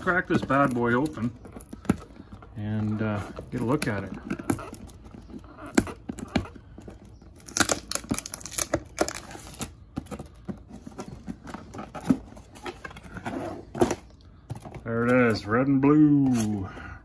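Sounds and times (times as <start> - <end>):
cardboard tearing and crinkling: 0.0 - 14.1.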